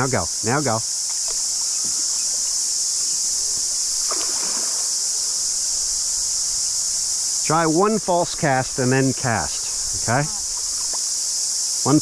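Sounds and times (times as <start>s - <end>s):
cicadas singing: 0.0s - 12.0s.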